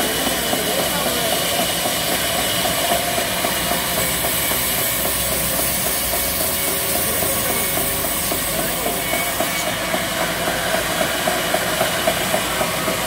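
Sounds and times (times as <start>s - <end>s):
saw blade hissing through wood: 0.0s - 13.0s
sawmill machine hum: 0.0s - 13.0s.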